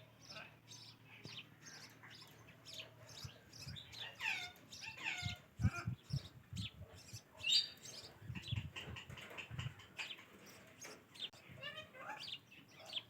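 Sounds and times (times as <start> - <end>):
parakeet chirping and calling: 0.3 - 13.0.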